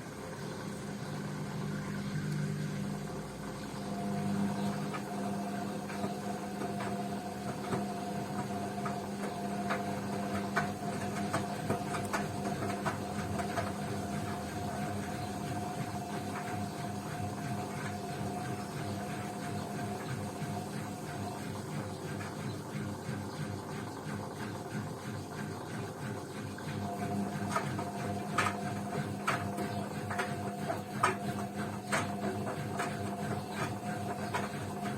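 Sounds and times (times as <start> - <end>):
washing machine hum: 0.0 - 34.9.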